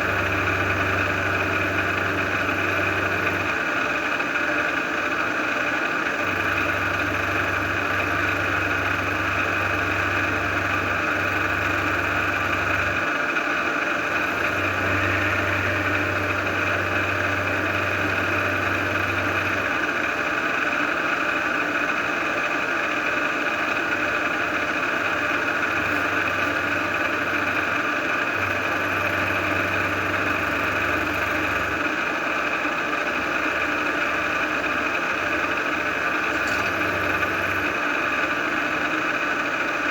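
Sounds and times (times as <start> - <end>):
machine running with low hum: 0.0 - 39.9.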